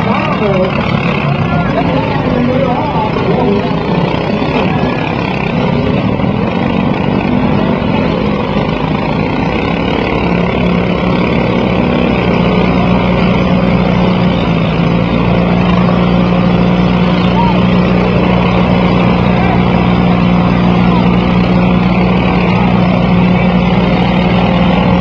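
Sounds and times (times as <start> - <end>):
riding lawn mower engines droning: 0.0 - 25.0.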